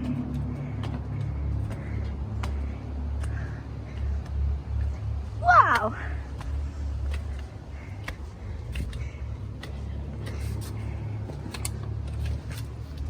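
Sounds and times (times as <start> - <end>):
footsteps on trail: 0.0 - 13.0
steady low rumble: 0.0 - 13.0.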